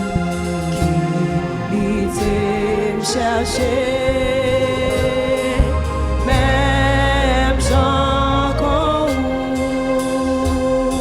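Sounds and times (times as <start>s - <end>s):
bass: 0.0s - 11.0s
choir singing: 0.0s - 11.0s
church band playing: 0.0s - 11.0s.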